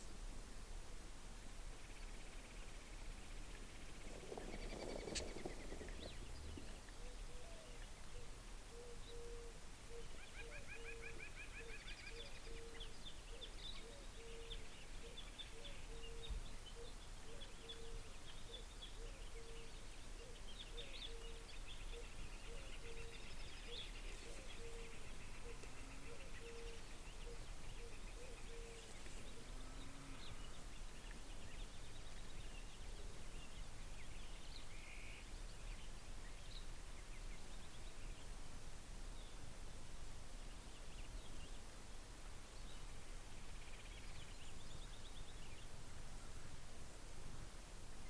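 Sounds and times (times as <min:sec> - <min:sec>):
songbirds chirping and trilling: 0:01.7 - 0:39.6, 0:40.4 - 0:46.5.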